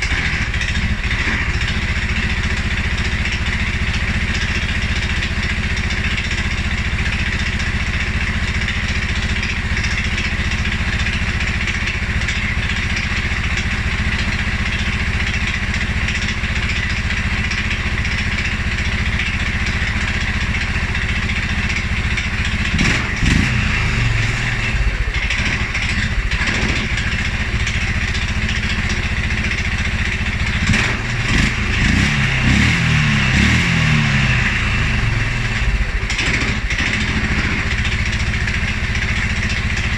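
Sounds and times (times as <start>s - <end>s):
atv engine idling and revving: 0.0s - 39.9s.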